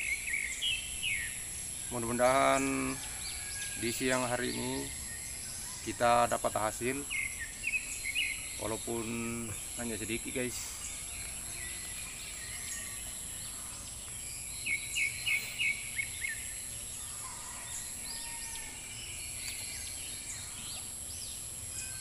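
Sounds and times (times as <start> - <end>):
bird chirping: 0.0 - 22.0
high-pitched insect drone: 0.0 - 22.0.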